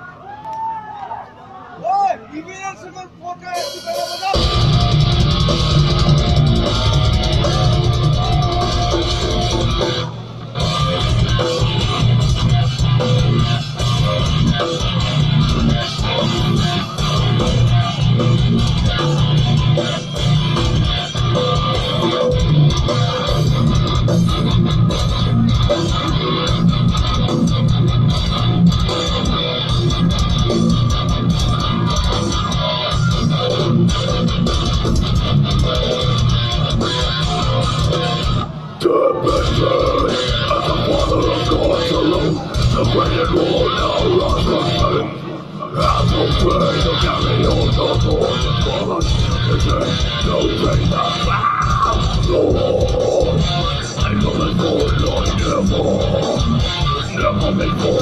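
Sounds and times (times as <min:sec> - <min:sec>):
live rock band playing loud: 0:03.6 - 0:58.0.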